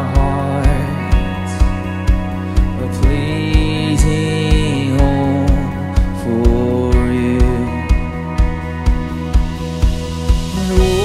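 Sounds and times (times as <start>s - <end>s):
steady kick drum beat: 0.0s - 11.0s
worship band sustained chords: 0.0s - 11.0s.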